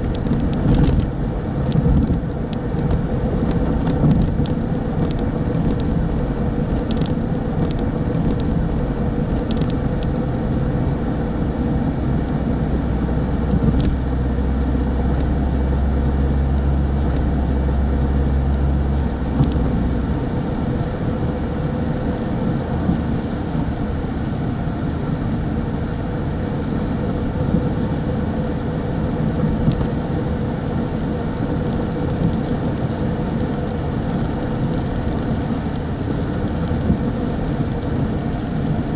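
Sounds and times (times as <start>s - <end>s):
car engine and road rumble: 0.0s - 38.9s
constant hum: 0.0s - 38.9s.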